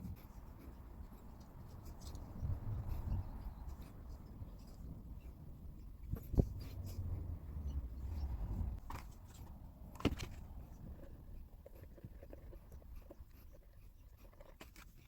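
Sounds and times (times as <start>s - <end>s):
light scratching on model car: 0.0s - 15.0s.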